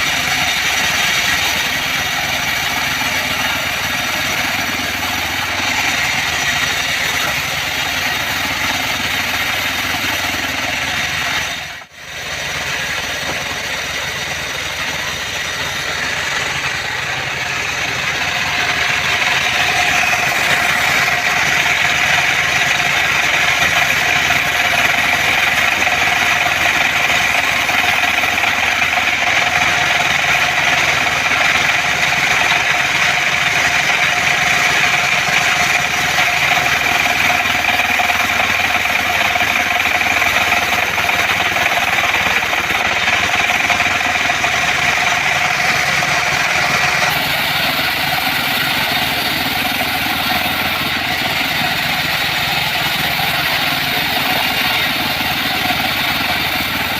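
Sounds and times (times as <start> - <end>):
bandsaw sawmill running: 0.0 - 56.9.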